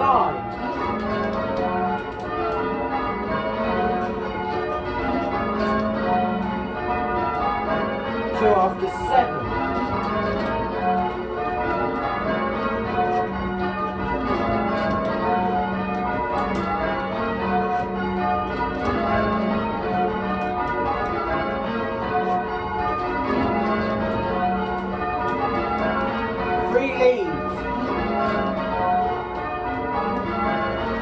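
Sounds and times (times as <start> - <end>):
church bells ringing: 0.0 - 31.0.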